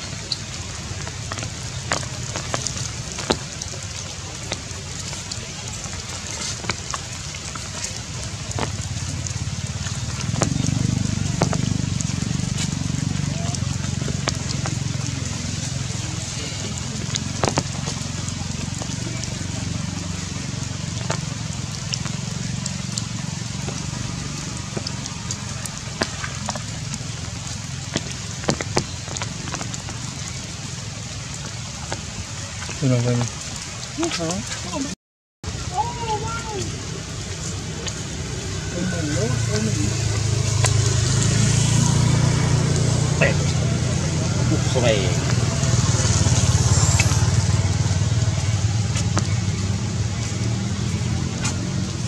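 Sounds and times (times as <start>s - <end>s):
engine low pulsing rumble: 0.0s - 34.0s, 35.7s - 52.0s
steady rain falling: 0.0s - 52.0s.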